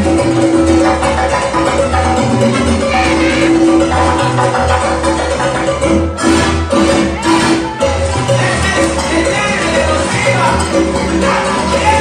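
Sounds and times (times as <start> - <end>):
salsa music: 0.0 - 12.0.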